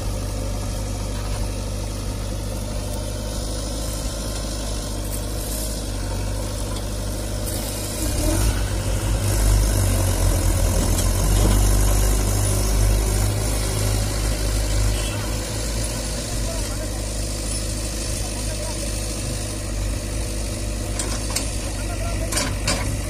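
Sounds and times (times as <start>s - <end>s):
tractor engine idling: 0.0s - 8.0s, 8.6s - 23.0s
backhoe diesel engine running: 0.0s - 23.0s.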